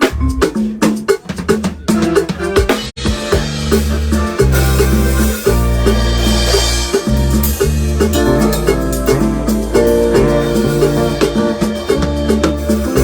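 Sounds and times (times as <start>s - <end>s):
loud music with heavy bass: 0.0s - 13.0s.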